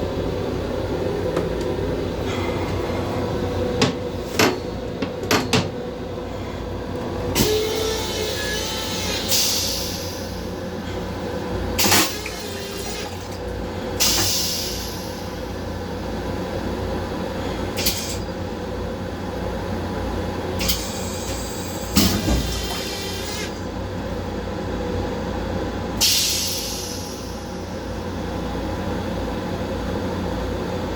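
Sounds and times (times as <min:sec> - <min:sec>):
train low rumble and hum: 0:00.0 - 0:30.9.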